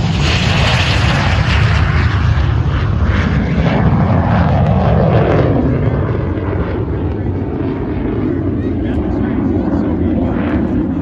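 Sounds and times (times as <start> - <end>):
jet fighter passing low: 0.0 - 11.0.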